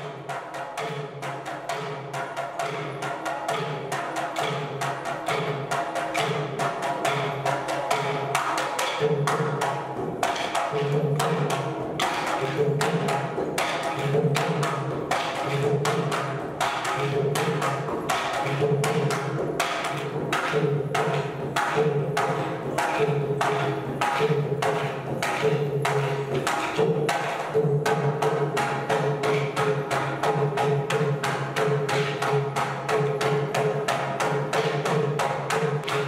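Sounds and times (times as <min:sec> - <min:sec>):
hand-played barrel drum: 0:00.0 - 0:36.0.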